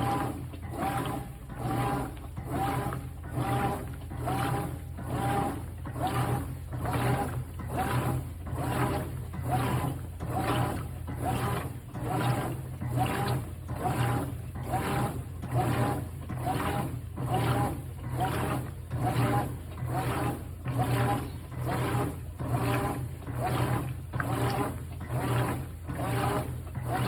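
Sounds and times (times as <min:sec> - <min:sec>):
washing machine motor humming: 0:00.0 - 0:27.0.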